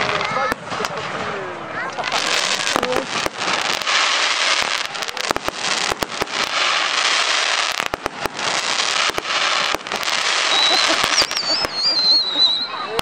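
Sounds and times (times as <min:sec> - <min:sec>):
dense crackling hiss: 0:00.0 - 0:12.1
fireworks bangs: 0:00.0 - 0:13.0.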